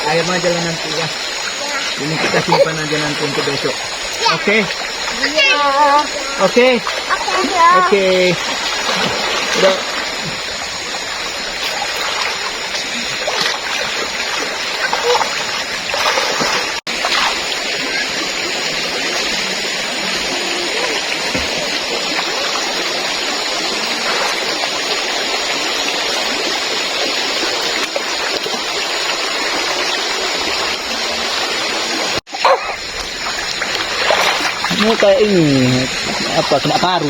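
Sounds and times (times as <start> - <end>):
running water rushing: 0.0 - 37.0.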